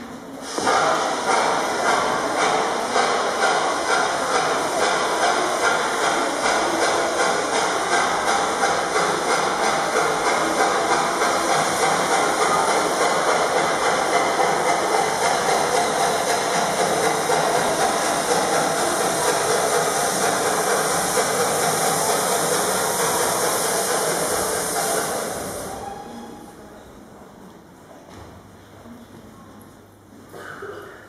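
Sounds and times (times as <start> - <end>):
steam train hissing and chugging: 0.0 - 26.8.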